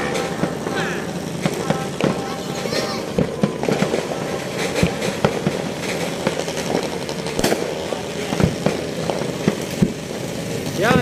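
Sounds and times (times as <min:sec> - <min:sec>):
fireworks bangs and crackling pops: 0:00.0 - 0:11.0
steady background noise: 0:00.0 - 0:11.0.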